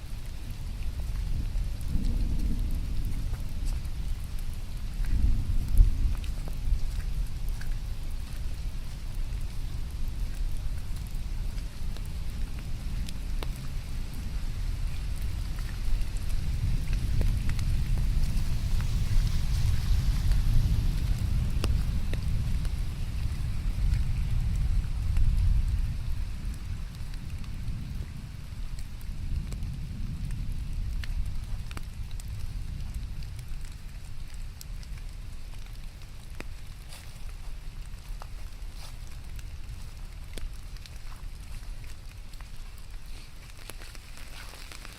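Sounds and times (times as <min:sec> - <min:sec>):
continuous low rumble: 0:00.0 - 0:44.9
steady rain: 0:00.0 - 0:44.9.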